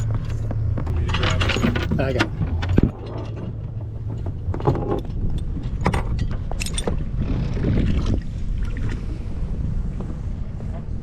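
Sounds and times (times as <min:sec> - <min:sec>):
knocks and clatter on boat: 0:00.0 - 0:11.0.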